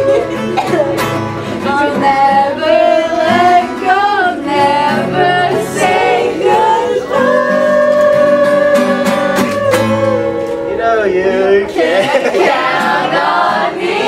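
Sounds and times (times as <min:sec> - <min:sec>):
acoustic guitar: 0:00.0 - 0:14.0
person singing: 0:01.5 - 0:14.0.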